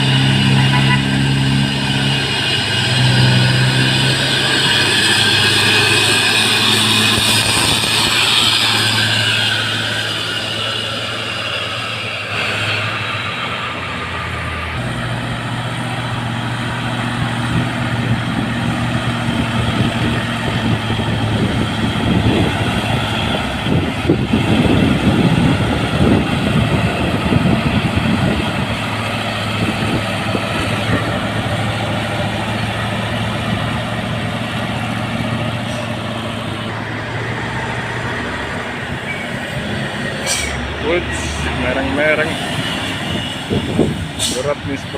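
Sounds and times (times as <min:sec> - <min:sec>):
truck diesel engine pulling: 0:00.0 - 0:44.9.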